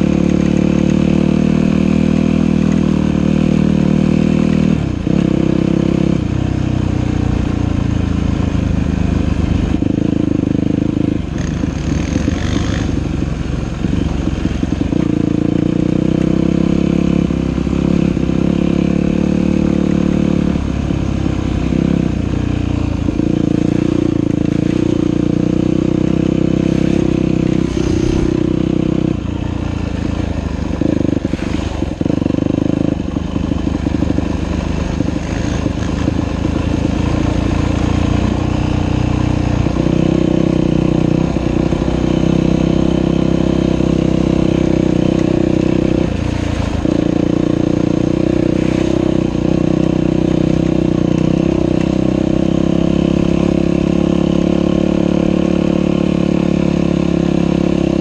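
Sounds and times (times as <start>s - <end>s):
dirt bike engine revving: 9.6s - 13.2s, 13.8s - 58.0s.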